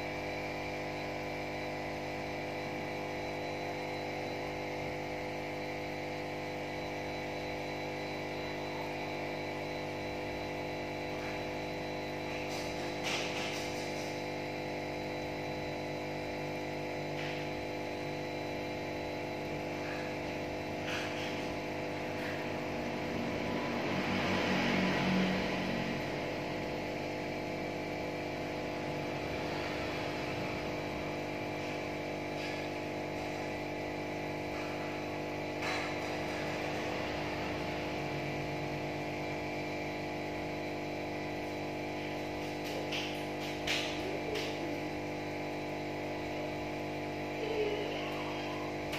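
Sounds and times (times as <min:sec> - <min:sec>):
aquarium air pump humming: 0:00.0 - 0:48.9.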